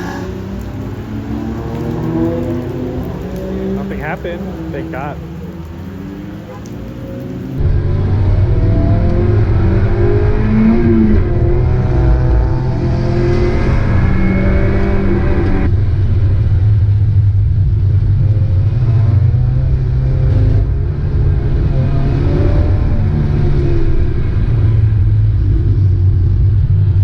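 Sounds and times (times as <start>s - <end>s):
car engine running hard: 0.0s - 27.0s.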